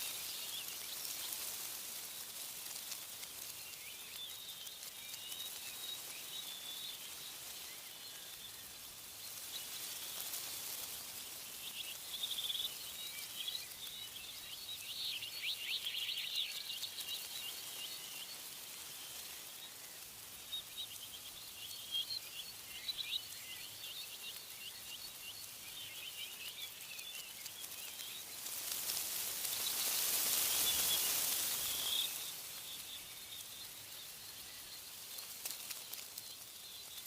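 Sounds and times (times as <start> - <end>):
small birds chirping: 0.0 - 37.0
wind through tree leaves: 0.0 - 37.0.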